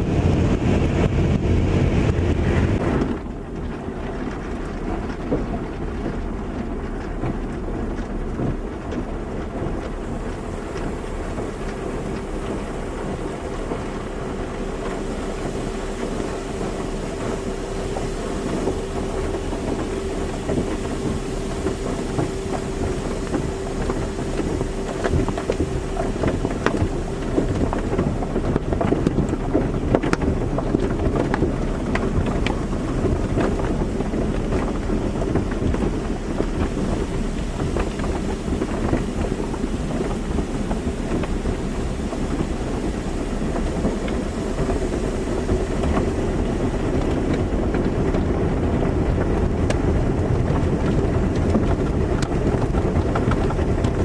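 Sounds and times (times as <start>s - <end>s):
car wash spraying water: 0.0s - 54.0s
steady hum: 0.0s - 54.0s.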